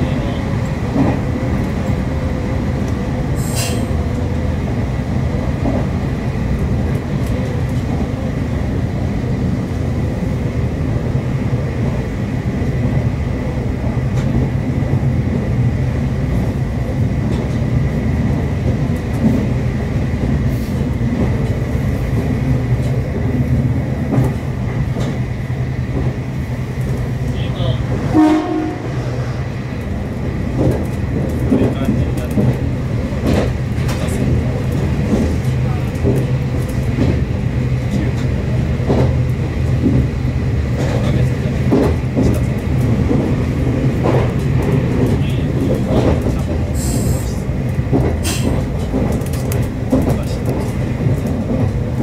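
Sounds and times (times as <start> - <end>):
train wheels rumbling: 0.0 - 52.0.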